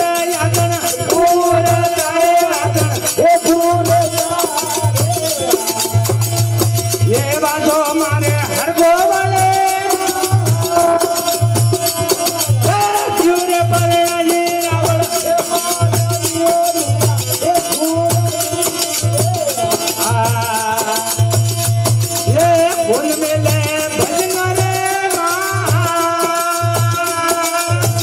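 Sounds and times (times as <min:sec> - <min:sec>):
jingling hand percussion: 0:00.0 - 0:28.0
man singing into microphone: 0:00.0 - 0:28.0.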